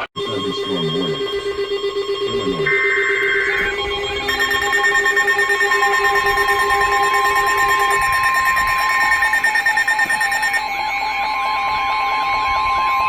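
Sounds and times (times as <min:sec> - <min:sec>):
lower alarm tone: 0:00.0 - 0:13.0
steady high alarm tone: 0:00.1 - 0:13.0
rapid pulsing beeps: 0:00.2 - 0:13.0
warbling tone: 0:00.2 - 0:13.0.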